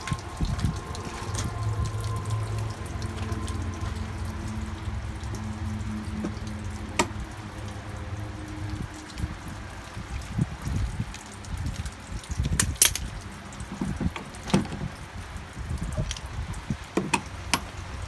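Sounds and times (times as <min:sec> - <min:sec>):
low steady hum: 0:00.0 - 0:18.0
water dripping and trickling: 0:00.0 - 0:18.0.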